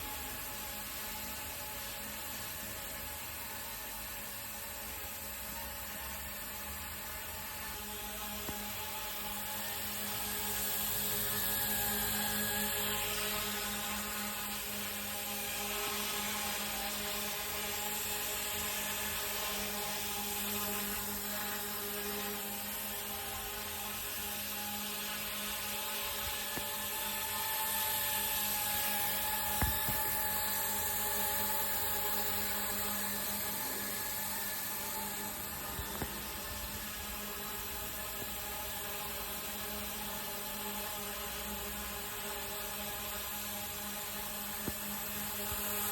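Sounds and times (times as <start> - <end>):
rc helicopter motor whine: 0.0 - 45.9.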